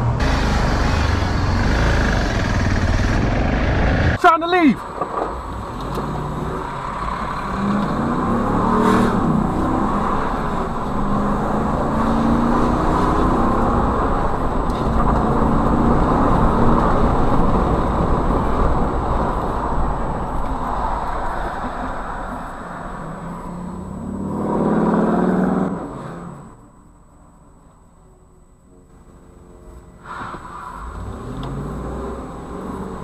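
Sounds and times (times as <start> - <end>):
car engine accelerating: 0.0 - 26.6, 28.8 - 33.0
tyre and road noise: 0.0 - 33.0.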